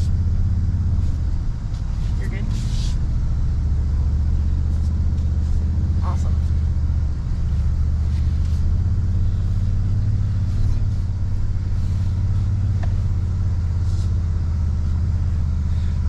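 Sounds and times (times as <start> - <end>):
pickup engine running low revs: 0.0 - 16.0.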